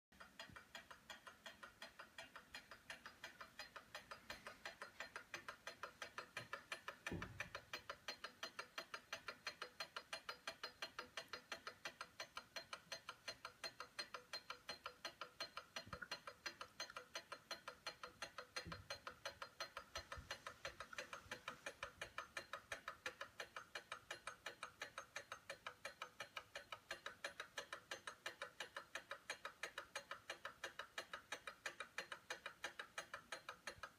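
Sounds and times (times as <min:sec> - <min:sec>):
clock ticking rapidly: 0:00.1 - 0:33.9.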